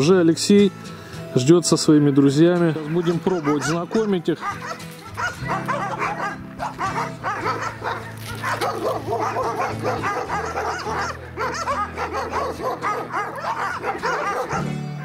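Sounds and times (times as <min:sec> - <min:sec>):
background music with chords: 0:00.0 - 0:15.0
dogs barking and yipping: 0:02.0 - 0:15.0.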